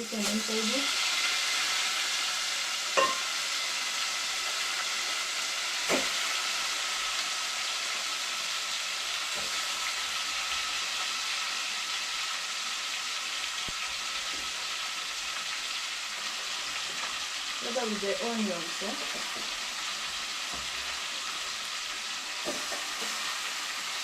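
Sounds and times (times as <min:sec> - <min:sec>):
chicken and onions sizzling in pot: 0:00.0 - 0:24.0.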